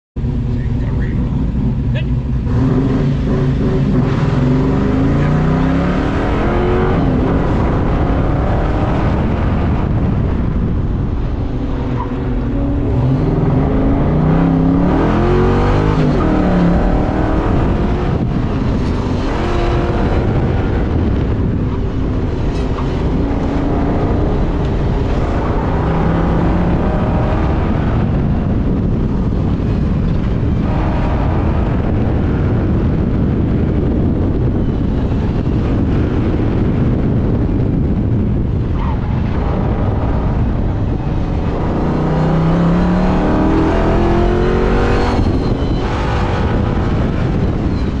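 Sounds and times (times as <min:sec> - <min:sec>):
car engine at high revs: 0:00.2 - 0:48.0.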